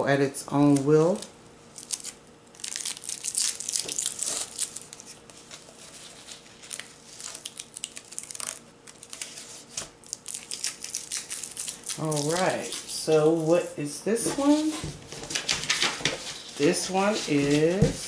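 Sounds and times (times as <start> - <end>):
paper crinkling and rustling: 0.7 - 13.6, 14.3 - 18.0.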